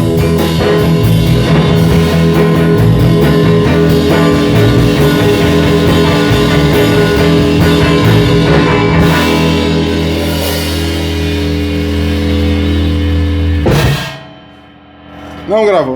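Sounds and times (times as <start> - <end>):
electric guitar: 0.0 - 15.6
drum kit: 0.0 - 15.9.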